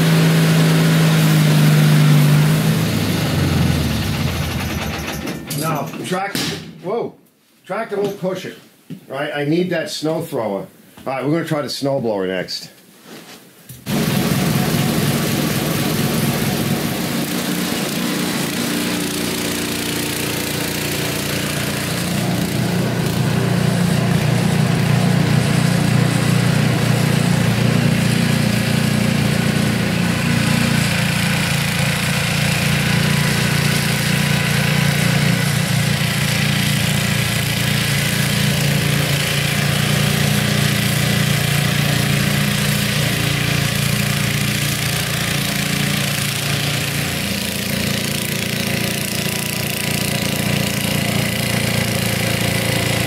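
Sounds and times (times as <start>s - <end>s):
snowblower engine running: 0.0s - 5.8s, 13.9s - 53.0s.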